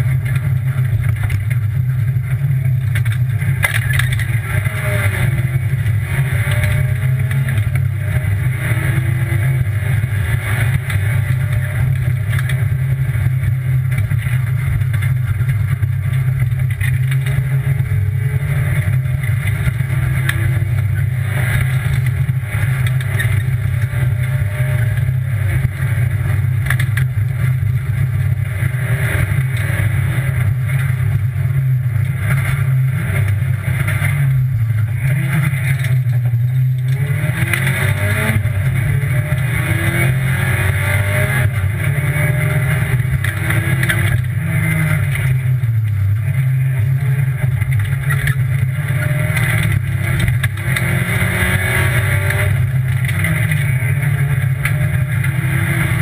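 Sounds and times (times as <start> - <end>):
car engine revving under load: 0.0 - 56.0.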